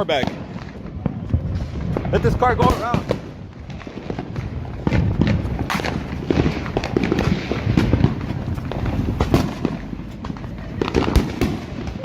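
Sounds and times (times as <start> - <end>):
fireworks bangs and pops: 0.0 - 12.0
low rumble: 0.3 - 12.0.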